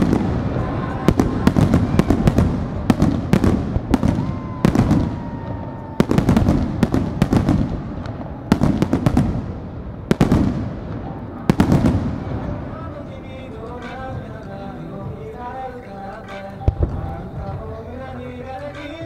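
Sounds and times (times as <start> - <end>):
rumbling echo: 0.0 - 19.0.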